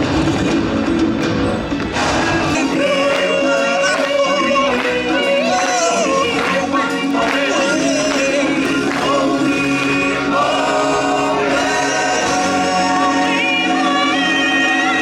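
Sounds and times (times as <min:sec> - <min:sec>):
choir singing with backing music: 0:01.9 - 0:15.0.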